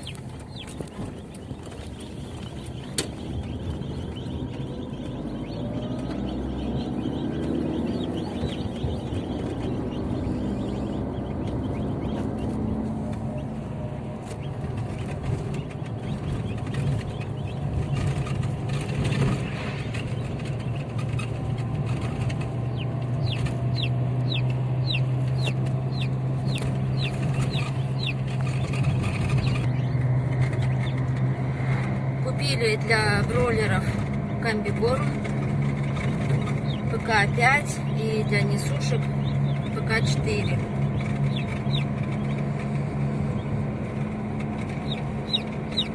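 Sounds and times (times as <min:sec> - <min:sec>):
car hum: 0:00.0 - 0:45.9
chicks peeping: 0:00.0 - 0:45.9.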